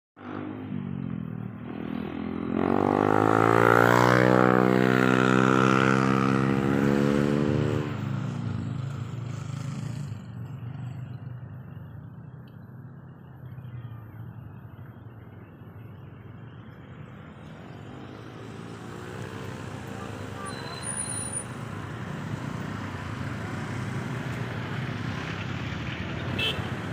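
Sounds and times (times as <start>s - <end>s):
outdoor background noise: 0.2s - 26.9s.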